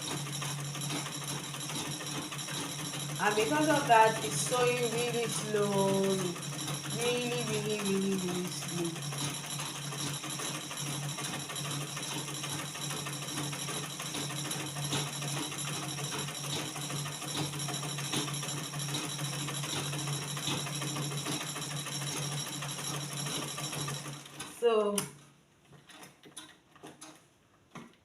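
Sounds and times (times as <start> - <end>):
sewing machine stitching: 0.0 - 27.9.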